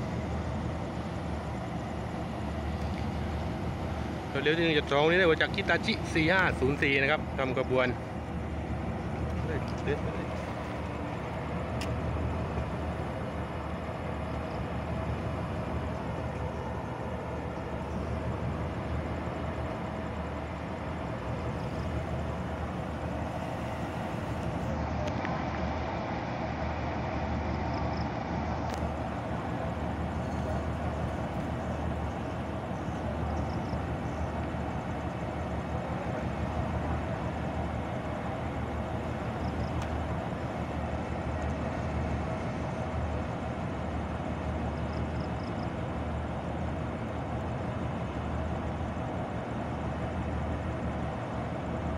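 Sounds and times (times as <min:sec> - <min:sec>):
diesel locomotive engine rumbling: 0:00.0 - 0:51.9.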